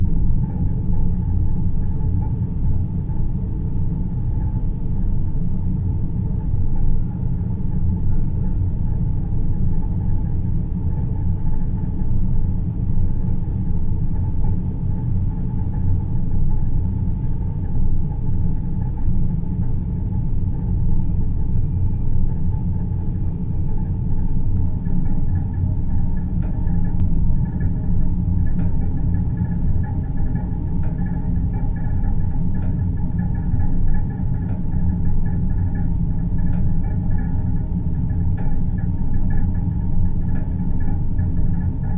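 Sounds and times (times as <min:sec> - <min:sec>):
deep rumbling drone: 0:00.0 - 0:41.9.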